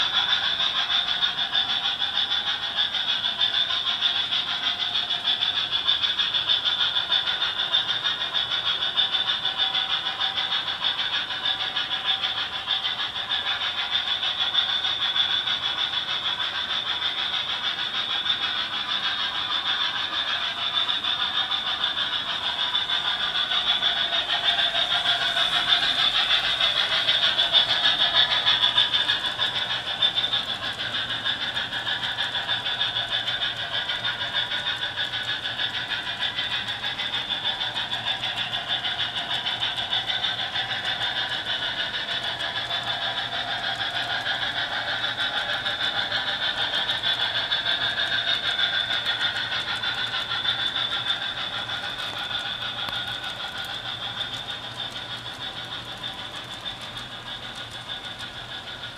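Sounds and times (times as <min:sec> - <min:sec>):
model train wheels rattling on rails: 0:00.0 - 0:58.9.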